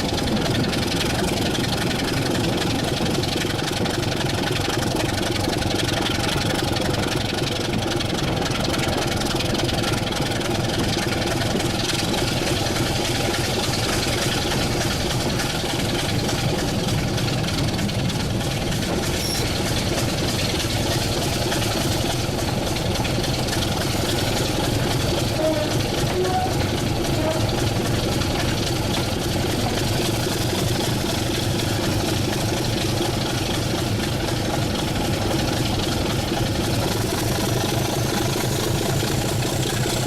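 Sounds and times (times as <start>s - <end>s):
diesel locomotive engine idling: 0.0s - 40.0s.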